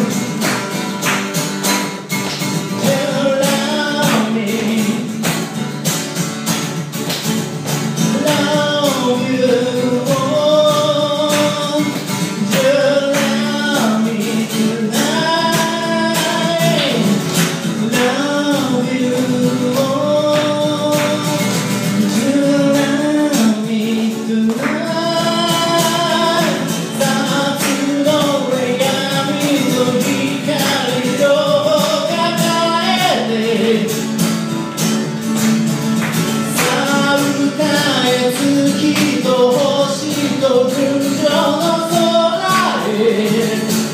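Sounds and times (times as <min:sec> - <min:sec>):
person singing: 0:00.0 - 0:00.6, 0:02.7 - 0:05.4, 0:08.0 - 0:34.2, 0:36.3 - 0:43.9
strummed guitar: 0:00.0 - 0:43.9.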